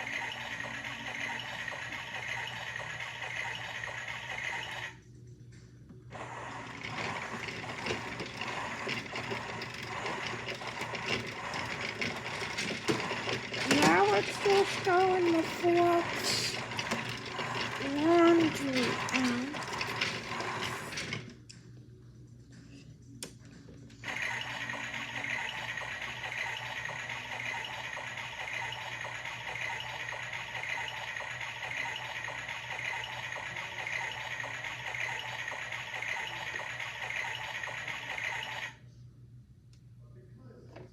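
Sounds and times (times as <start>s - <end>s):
toy washing machine clicking rattle: 0.0s - 4.9s, 6.6s - 21.4s, 24.0s - 38.8s
small motor running: 0.0s - 5.0s, 6.1s - 21.3s, 24.0s - 38.8s.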